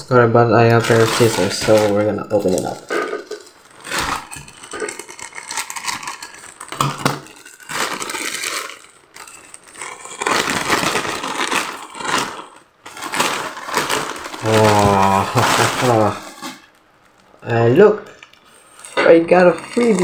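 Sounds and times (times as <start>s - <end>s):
plastic mailer bag crinkling: 0.6s - 20.0s
scissors cutting plastic: 0.7s - 16.6s, 18.8s - 20.0s.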